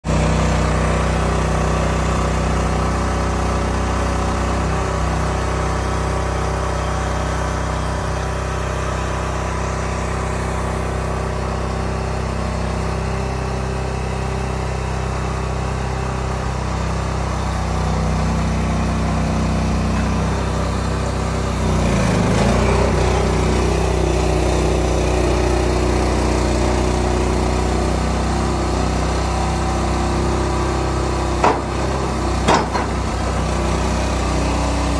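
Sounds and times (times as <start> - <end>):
log loader engine running: 0.1 - 34.9.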